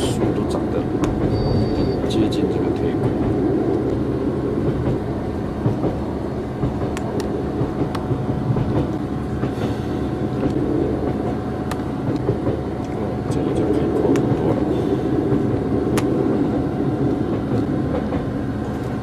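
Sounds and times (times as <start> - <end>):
constant hum: 0.0 - 19.0
train wheels rumbling on rails: 0.0 - 19.0.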